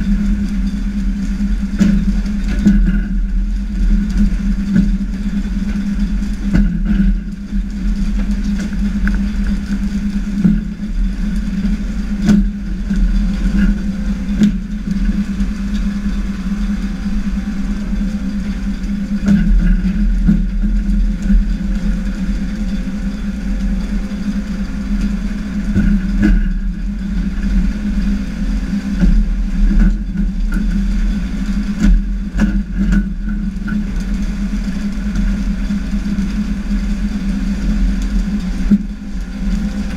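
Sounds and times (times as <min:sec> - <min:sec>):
boat engine humming: 0:00.0 - 0:39.9
wind and sea rushing: 0:00.0 - 0:39.9.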